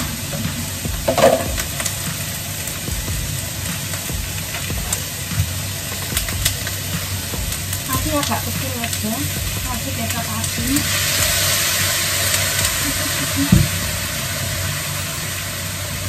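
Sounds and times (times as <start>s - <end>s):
food sizzling in a hot pan: 0.0s - 16.0s.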